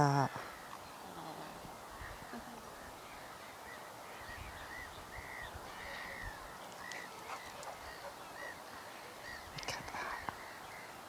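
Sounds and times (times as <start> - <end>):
birds calling: 0.0 - 11.0
faint outdoor background: 0.0 - 11.0.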